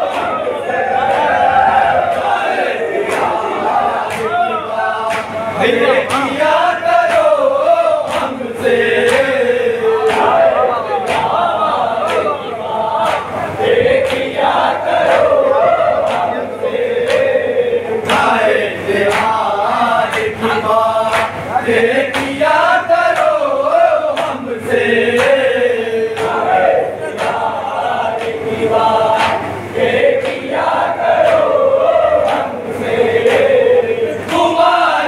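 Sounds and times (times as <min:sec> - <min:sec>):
men chanting together: 0:00.0 - 0:35.0.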